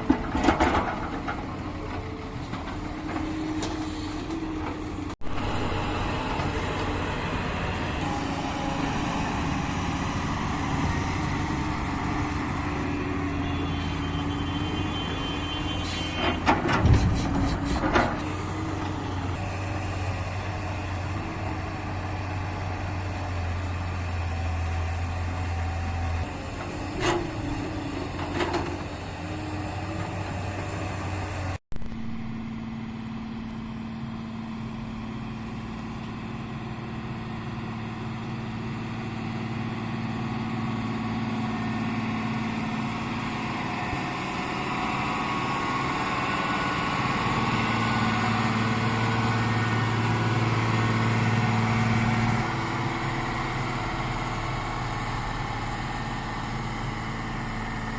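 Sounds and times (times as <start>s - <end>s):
heavy diesel engines running: 0.0s - 57.9s.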